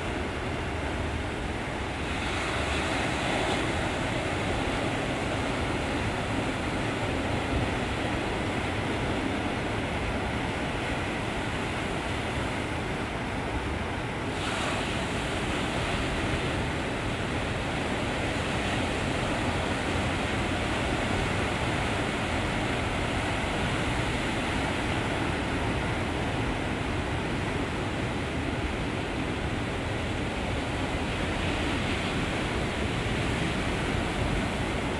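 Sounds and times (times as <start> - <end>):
hissing wash of surf: 0.0 - 34.9
ocean waves breaking: 0.0 - 34.9.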